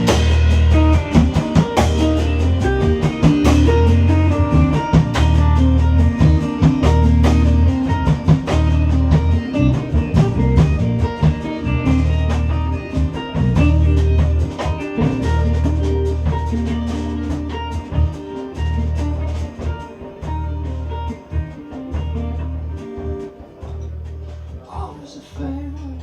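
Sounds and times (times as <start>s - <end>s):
deep bass line: 0.0s - 26.0s
drum kit: 0.0s - 26.0s
guitar: 0.0s - 26.0s.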